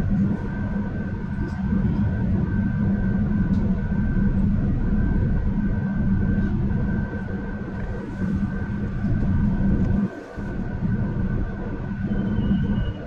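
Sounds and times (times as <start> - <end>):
constant electric hum: 0.0 - 13.0
train rumbling on rails: 0.0 - 13.0.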